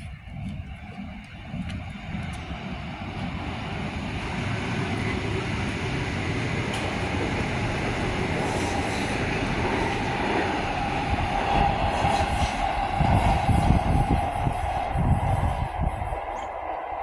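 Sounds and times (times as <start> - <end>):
train wheels rumbling on rail: 0.0 - 17.0
train whine: 0.0 - 17.0.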